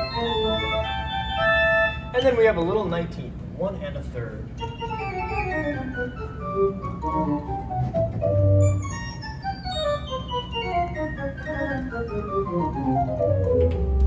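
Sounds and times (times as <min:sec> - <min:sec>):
pipe organ descending runs: 0:00.0 - 0:02.6, 0:04.6 - 0:14.0.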